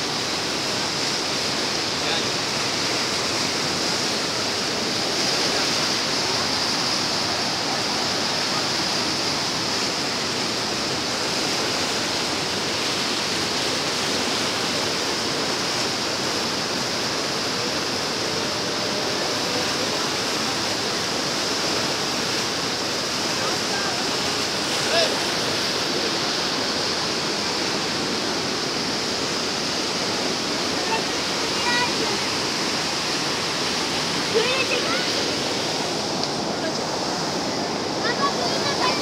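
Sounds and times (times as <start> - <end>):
white water rushing over rocks: 0.0 - 39.0.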